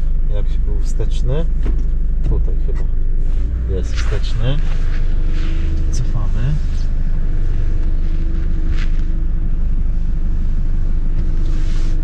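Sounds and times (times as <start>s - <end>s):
diesel engine running: 0.0s - 12.0s
power steering pump whine: 0.0s - 12.0s.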